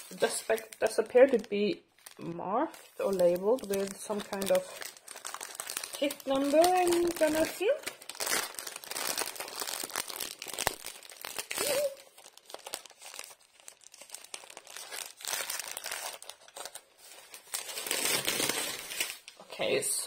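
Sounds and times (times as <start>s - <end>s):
stiff plastic crinkling: 0.0s - 19.4s.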